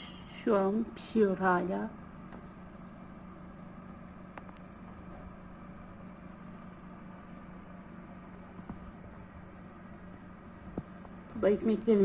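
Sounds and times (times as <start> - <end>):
electric oven humming: 0.0 - 12.0.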